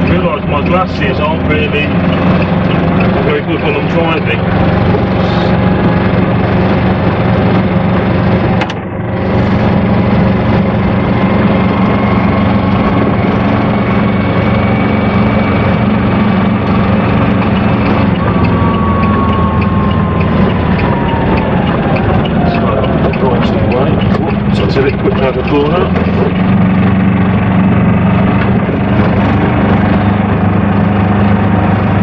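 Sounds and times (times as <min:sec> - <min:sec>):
diesel engine running: 0:00.0 - 0:32.0
drivetrain whine: 0:00.0 - 0:32.0.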